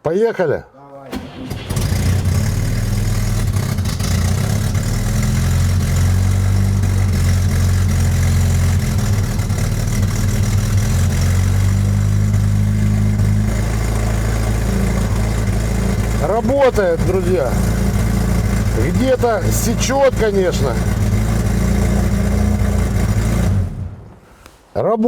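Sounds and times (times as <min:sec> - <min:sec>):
car engine starting and idling: 0:01.1 - 0:24.5.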